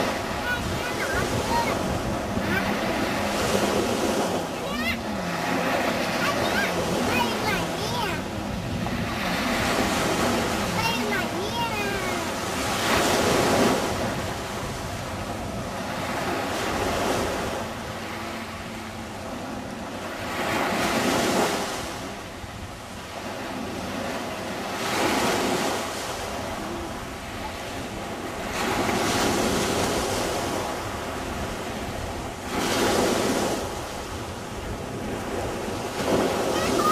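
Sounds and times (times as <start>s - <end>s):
surf washing onto beach: 0.0s - 36.9s.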